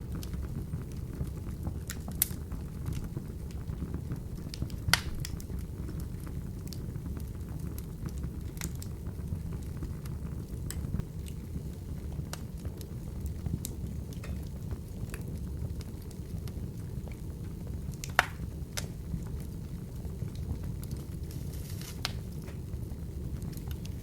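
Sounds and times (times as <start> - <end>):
wood fire crackling: 0.0 - 24.0
sharp pops of fire: 0.1 - 24.0.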